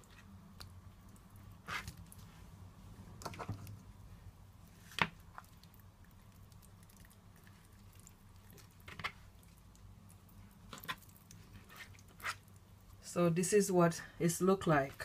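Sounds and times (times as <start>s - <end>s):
soft wet handling of fish: 0.0s - 13.0s.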